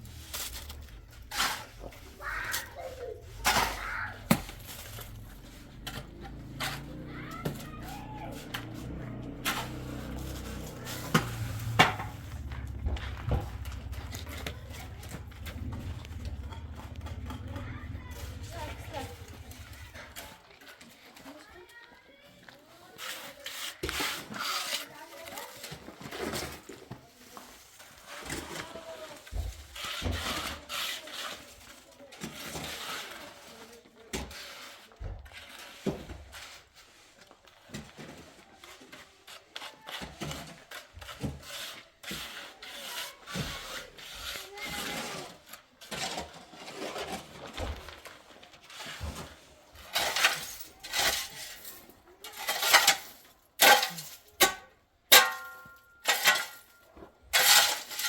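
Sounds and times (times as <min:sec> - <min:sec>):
hand tool scraping mortar: 0:00.0 - 0:21.5, 0:22.8 - 0:58.0.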